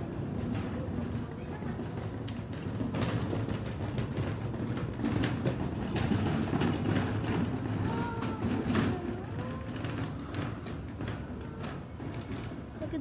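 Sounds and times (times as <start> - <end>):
plastic bin wheels rumbling on paving: 0.0 - 13.0.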